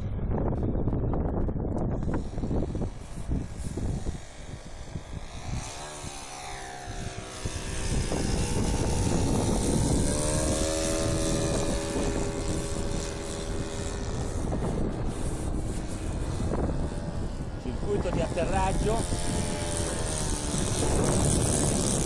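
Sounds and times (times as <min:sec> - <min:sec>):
model airplane motor and propeller: 0:00.0 - 0:22.0.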